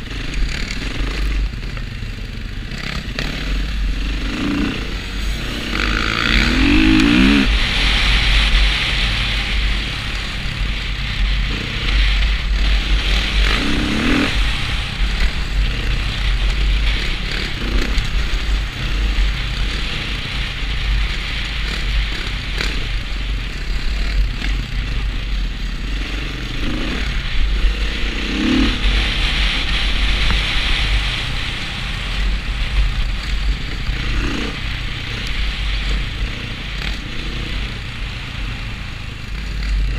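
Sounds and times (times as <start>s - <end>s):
dirt bike engine revving: 0.0s - 39.9s
wind rumble on microphone: 0.0s - 39.9s.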